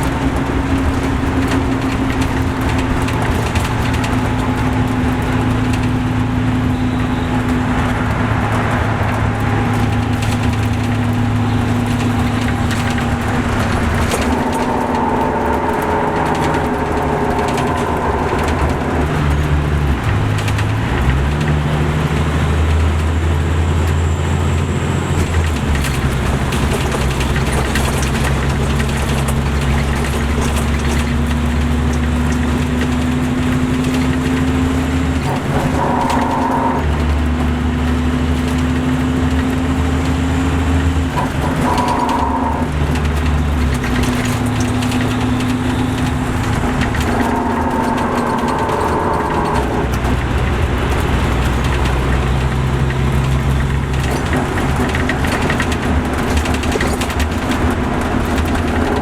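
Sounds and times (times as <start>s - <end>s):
diesel coach engine under load: 0.0s - 59.0s
transmission whine: 0.0s - 59.0s.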